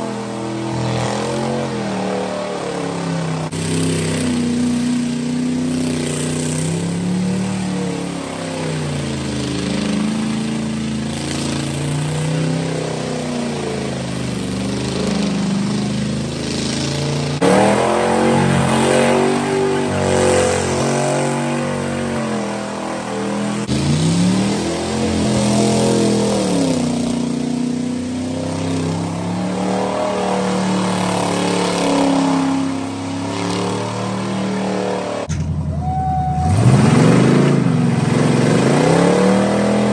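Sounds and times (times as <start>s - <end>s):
tires spinning: 0.0s - 39.9s
truck engine revving: 0.0s - 39.9s.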